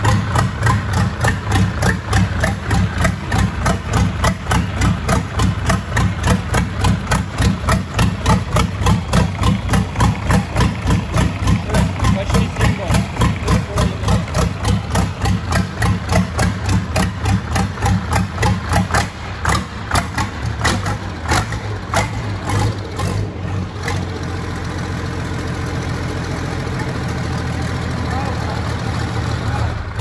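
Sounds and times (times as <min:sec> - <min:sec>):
diesel engine knocking and idling: 0:00.0 - 0:30.0.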